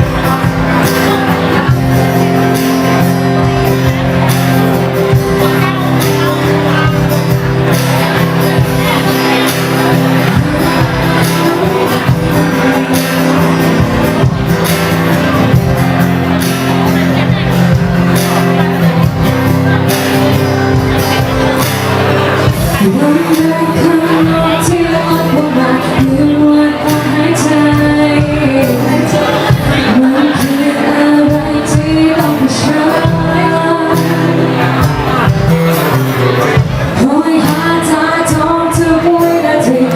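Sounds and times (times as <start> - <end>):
live band playing: 0.0 - 39.9
voices singing with band: 0.0 - 39.9.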